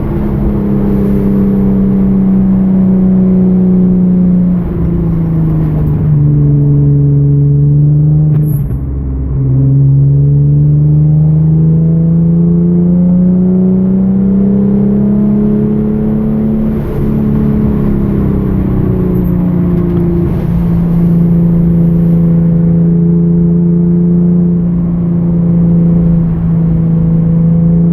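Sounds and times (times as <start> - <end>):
car engine at speed: 0.0 - 27.9.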